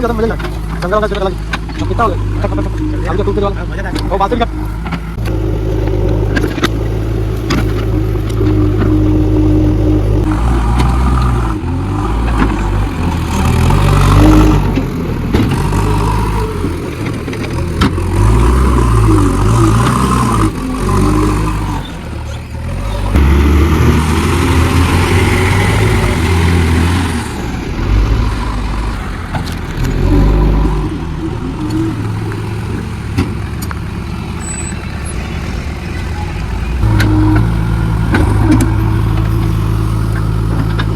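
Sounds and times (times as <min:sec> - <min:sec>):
diesel engine revving under load: 0:00.0 - 0:40.9.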